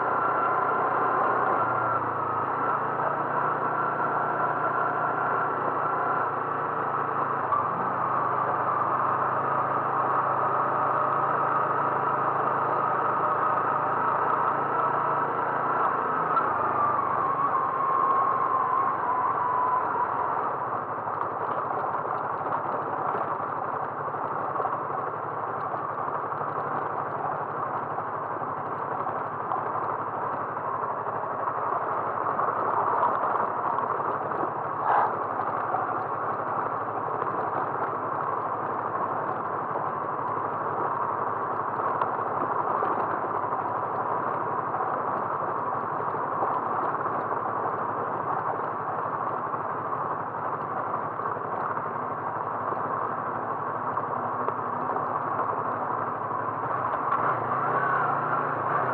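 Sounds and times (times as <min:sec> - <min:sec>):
vehicle road and engine noise: 0:00.0 - 0:58.9.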